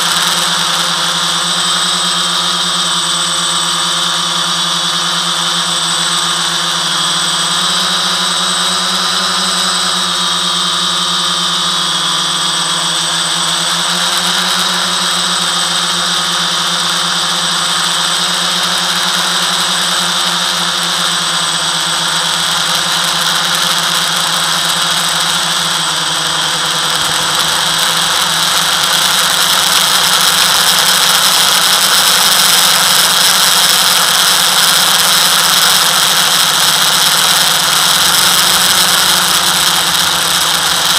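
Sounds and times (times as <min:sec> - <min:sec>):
drone motors and propellers whining: 0:00.0 - 0:40.9.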